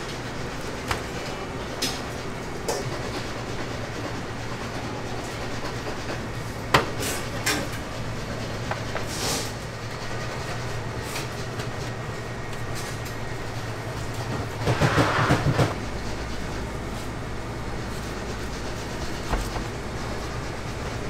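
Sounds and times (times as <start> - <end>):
ventilation fan hum: 0.0 - 21.0.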